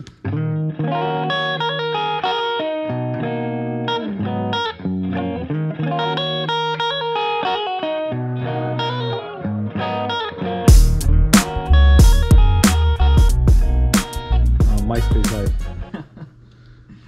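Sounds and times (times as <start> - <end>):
electric guitar intro music: 0.0 - 15.9.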